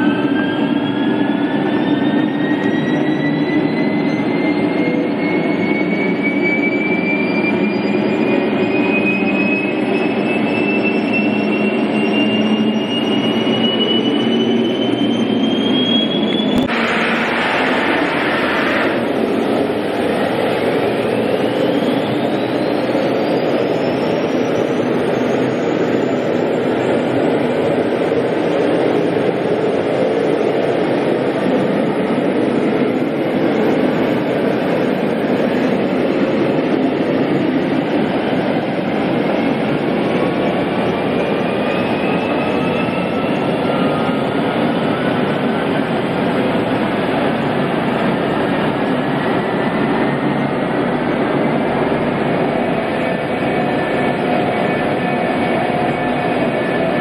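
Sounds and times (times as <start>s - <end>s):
jet engine roar: 0.0s - 57.0s
rising jet whine: 0.0s - 57.0s.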